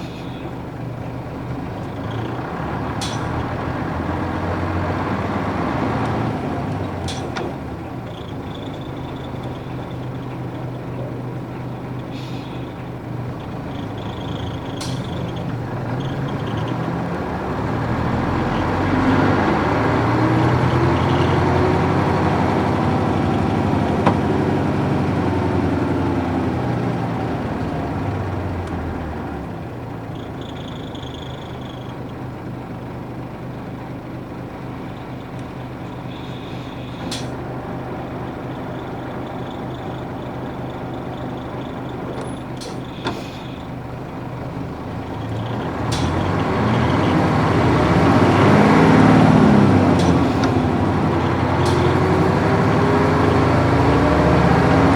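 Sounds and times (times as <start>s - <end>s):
bus diesel engine: 0.0s - 54.9s.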